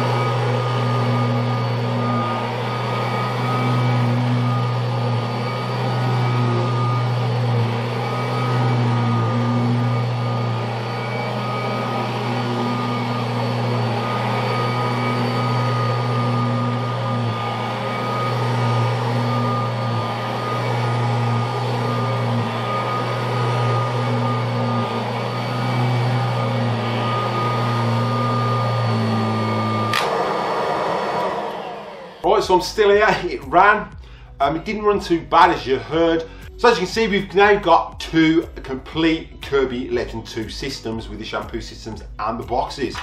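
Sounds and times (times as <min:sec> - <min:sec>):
vacuum cleaner motor whining: 0:00.0 - 0:43.0.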